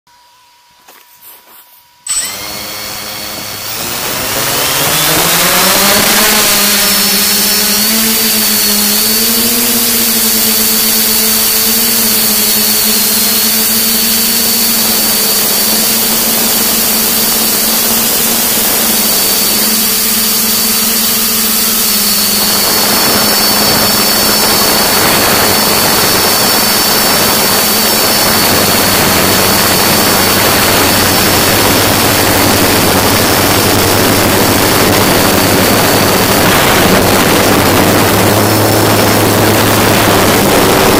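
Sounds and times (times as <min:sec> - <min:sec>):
drone motors whining: 0:00.8 - 0:40.9
propeller wash rushing: 0:02.3 - 0:40.9.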